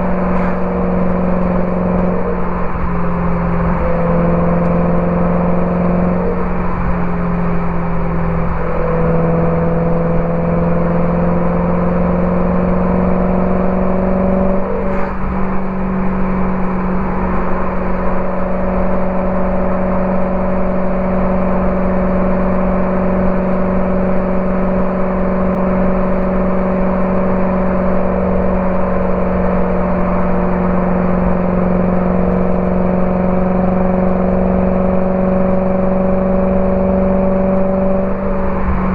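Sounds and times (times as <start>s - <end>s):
car engine driving: 0.0s - 38.9s.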